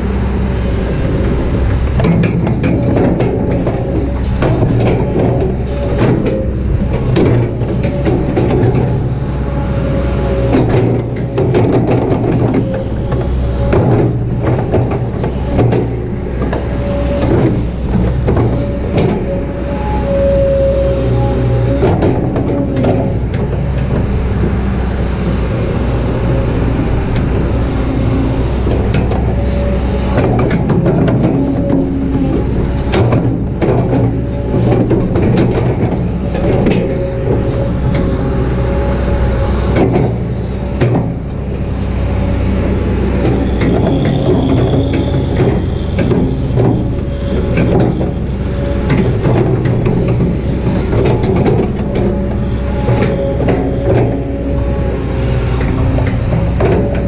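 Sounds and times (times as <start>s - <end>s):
excavator diesel engine: 0.0s - 57.0s
hydraulic whine: 0.0s - 57.0s
digging knocks and clatter: 1.7s - 57.0s.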